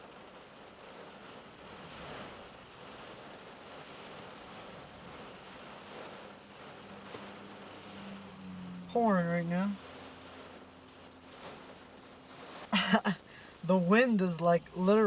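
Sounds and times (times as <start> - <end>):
wind gusts buffeting car: 0.0 - 12.7
heavy rain on a car: 0.0 - 15.0.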